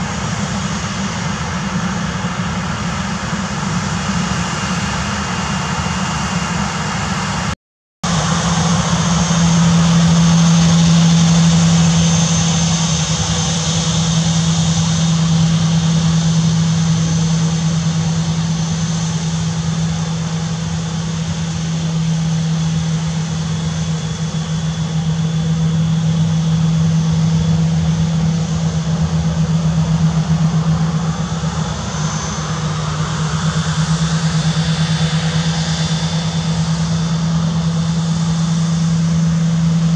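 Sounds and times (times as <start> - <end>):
jet engines running at low power: 0.0 - 39.9.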